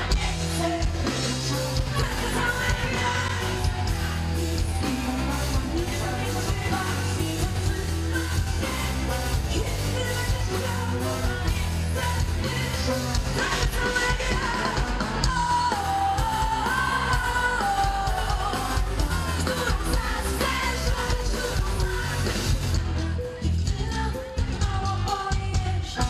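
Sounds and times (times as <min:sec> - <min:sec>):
pop-rock band playing: 0:00.0 - 0:26.0
woman singing: 0:00.0 - 0:26.0.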